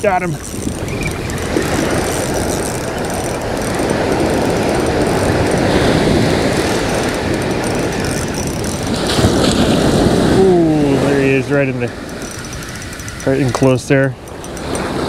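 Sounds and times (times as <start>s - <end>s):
wind rumbling on microphone: 0.0s - 15.0s
breaking surf: 1.2s - 15.0s.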